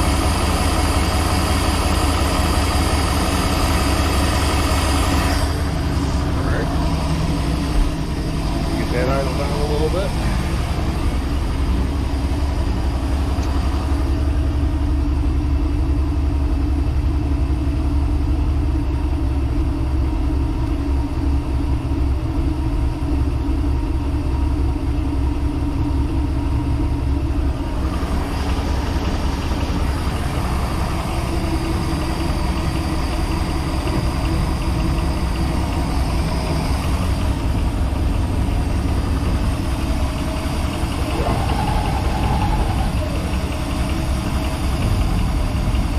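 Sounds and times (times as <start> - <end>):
boat engine idling: 0.0 - 45.9.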